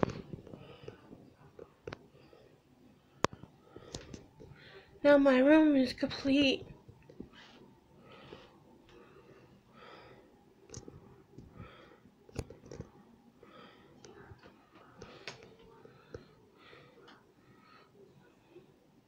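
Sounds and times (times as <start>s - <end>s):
quiet breathing: 0.0s - 5.0s, 6.7s - 19.0s.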